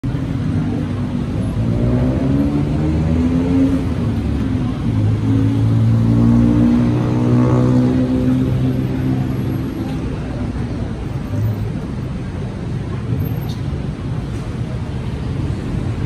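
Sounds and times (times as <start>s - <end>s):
vehicle engines passing: 0.0s - 16.0s.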